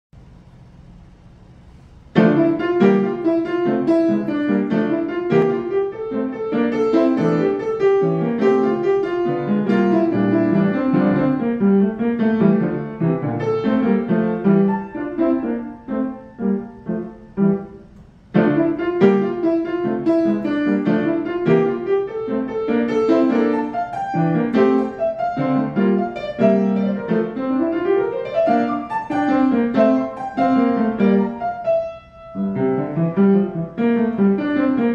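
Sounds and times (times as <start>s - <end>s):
grand piano piece: 0.2s - 34.9s.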